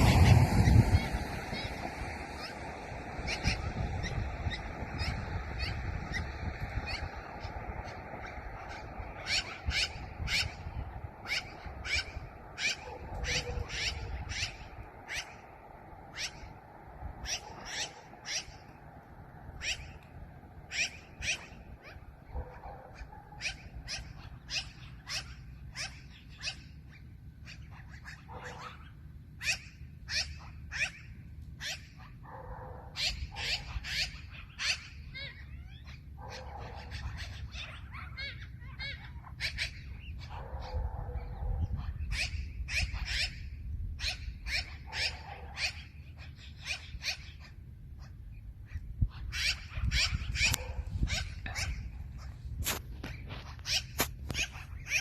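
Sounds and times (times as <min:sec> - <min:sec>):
magpie harsh calls: 0:00.0 - 0:15.5, 0:16.1 - 0:16.6, 0:17.2 - 0:18.7, 0:19.6 - 0:20.0, 0:20.7 - 0:32.2, 0:32.9 - 0:40.8, 0:41.6 - 0:55.0.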